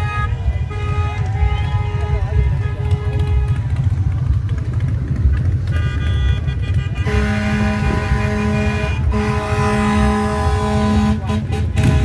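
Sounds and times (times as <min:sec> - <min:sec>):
vehicle horns honking: 0:00.0 - 0:03.6, 0:05.3 - 0:12.0
engines rumbling: 0:00.0 - 0:12.0
road noise: 0:00.0 - 0:12.0.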